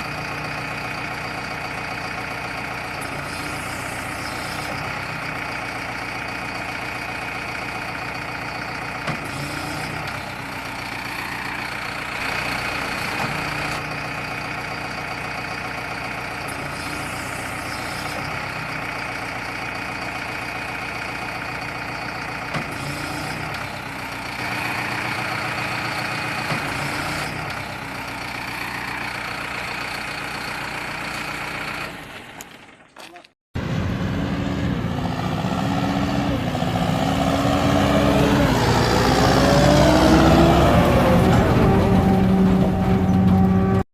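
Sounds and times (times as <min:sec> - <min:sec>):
vehicle engine running: 0:00.0 - 0:33.0, 0:33.6 - 0:43.9.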